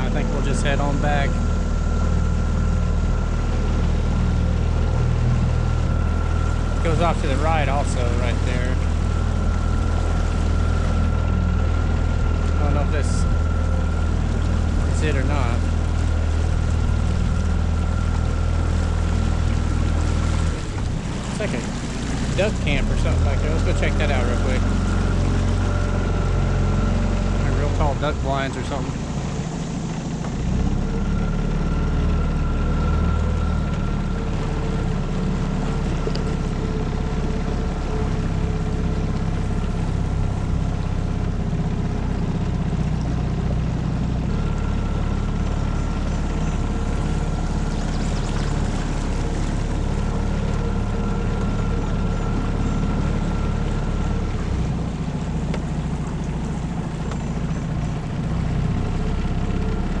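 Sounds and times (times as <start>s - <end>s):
outboard motor running: 0.0s - 60.0s.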